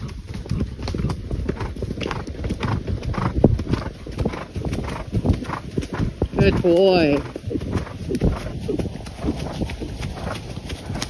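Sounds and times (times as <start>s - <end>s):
horse hoofbeats cantering on dirt: 0.0s - 11.0s.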